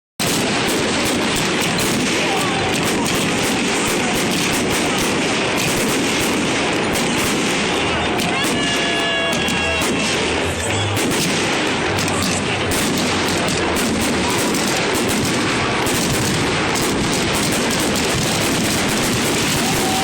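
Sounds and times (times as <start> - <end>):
fireworks bangs and crackles: 0.2 - 20.0.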